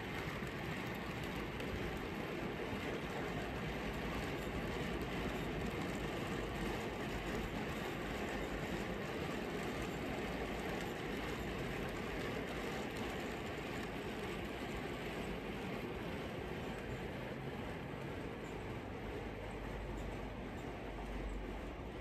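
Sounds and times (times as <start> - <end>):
model train wagons rumbling: 0.0 - 22.0
wheels clicking on track: 0.0 - 22.0.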